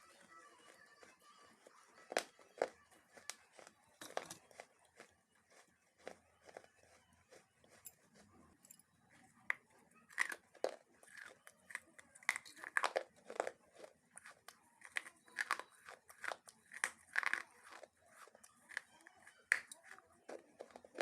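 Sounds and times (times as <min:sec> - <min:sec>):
crunching of crisp food: 0:00.0 - 0:21.0.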